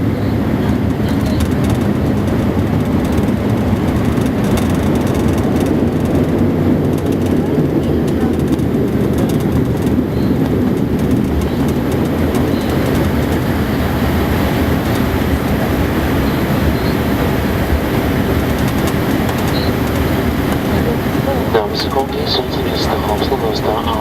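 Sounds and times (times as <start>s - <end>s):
aircraft rolling on ground: 0.0s - 24.0s
turboprop engines rumbling: 0.0s - 24.0s.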